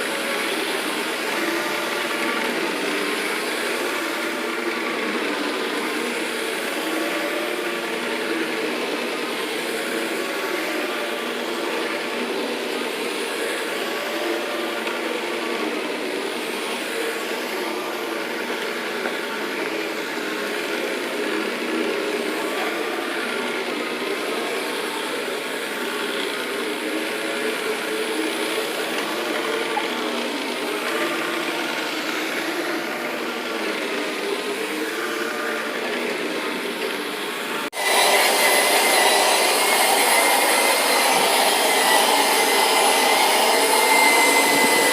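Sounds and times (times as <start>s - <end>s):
carpet cleaner motor humming: 0.0s - 44.9s.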